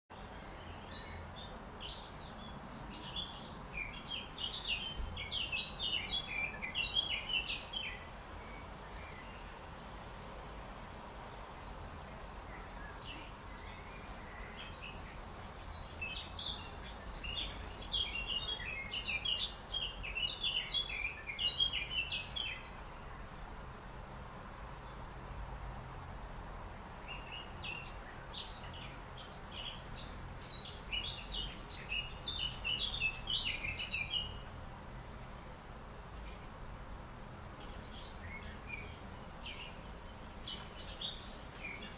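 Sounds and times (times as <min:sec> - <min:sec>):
small birds chirping: 0:00.1 - 0:41.9.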